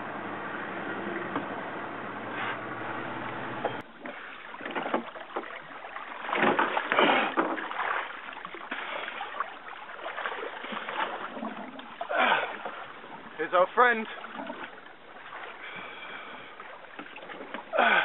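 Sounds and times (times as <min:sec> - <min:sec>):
water splashing against boat: 0:00.4 - 0:18.0.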